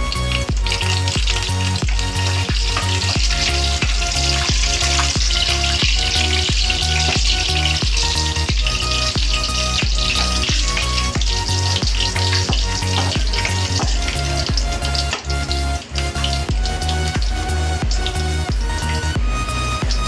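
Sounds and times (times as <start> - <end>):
background music with steady beat: 0.0 - 20.0
spices sizzling in hot oil: 0.0 - 20.0
spatula stirring: 0.7 - 18.1.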